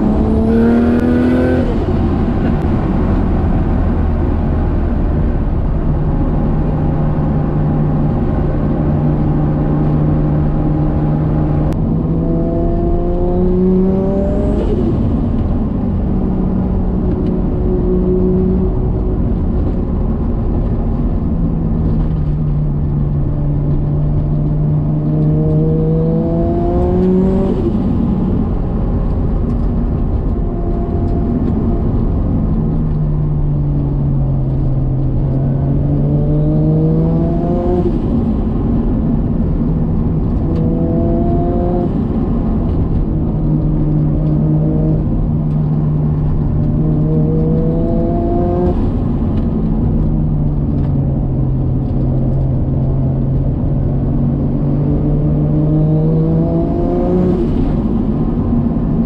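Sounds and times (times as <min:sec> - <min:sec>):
car engine revving: 0:00.0 - 0:59.0
road noise: 0:00.0 - 0:59.0.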